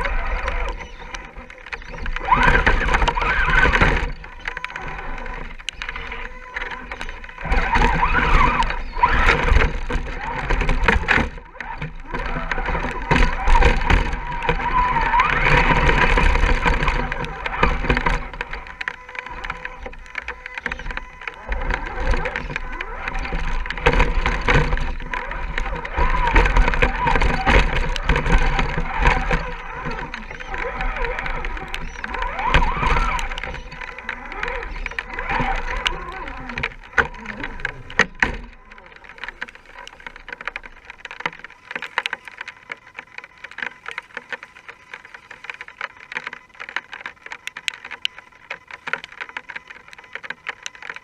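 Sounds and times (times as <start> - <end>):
rc car motors whining: 0.0 - 51.0.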